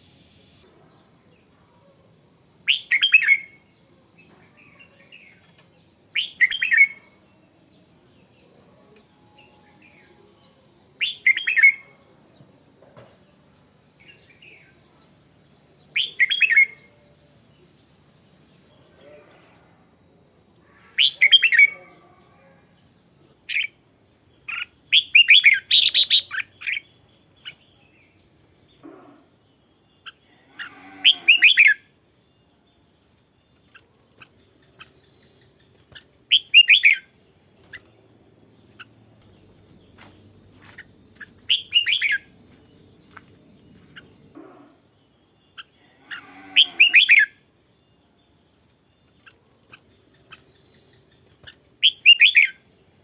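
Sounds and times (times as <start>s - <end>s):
faint high-pitched whine: 0.0s - 53.0s.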